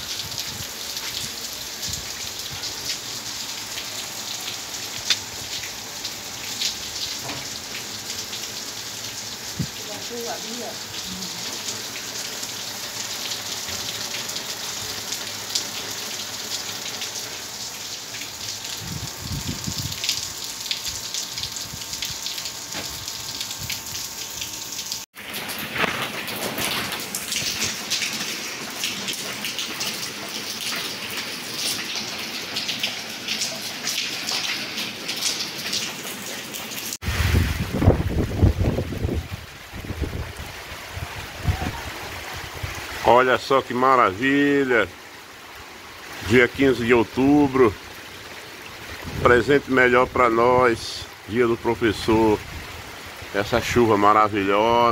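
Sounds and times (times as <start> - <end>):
heavy rain on tiled roofs: 0.0 - 54.9
sharp rain splashes: 0.0 - 54.9.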